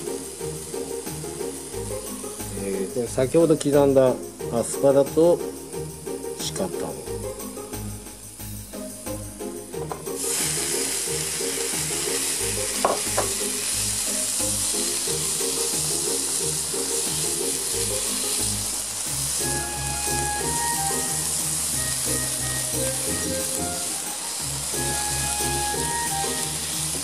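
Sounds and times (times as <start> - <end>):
food sizzling on a hot plate: 0.0 - 9.2, 9.8 - 27.0.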